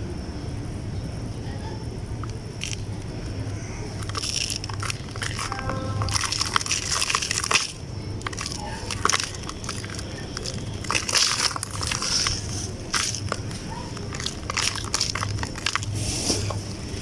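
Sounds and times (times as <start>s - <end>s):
damp chunks crunching: 2.6s - 17.0s.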